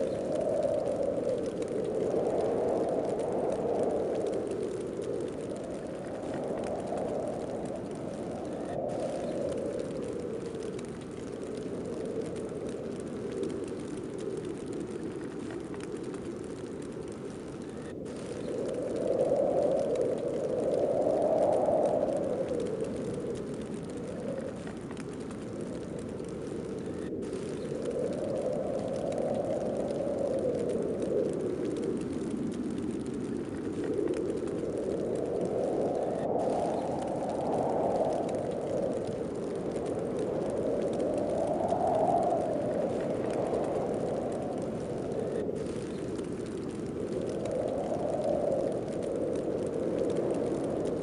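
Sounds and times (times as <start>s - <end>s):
snowstorm wind blowing: 0.0s - 51.0s.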